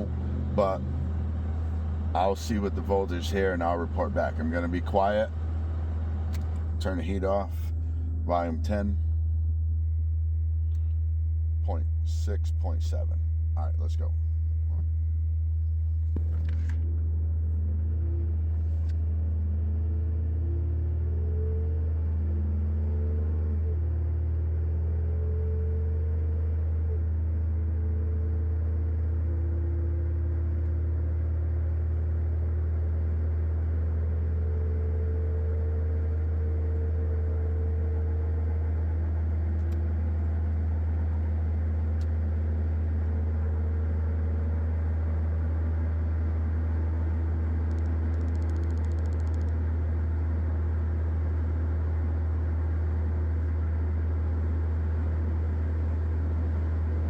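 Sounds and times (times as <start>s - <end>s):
loud low test tone: 0.0s - 57.0s
truck engine accelerating: 0.0s - 57.0s.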